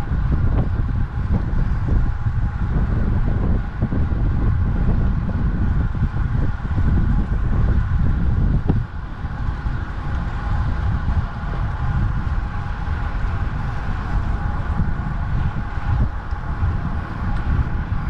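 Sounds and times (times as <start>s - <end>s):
rolling noise hiss: 0.0s - 18.0s
wind buffeting microphone: 0.0s - 18.0s.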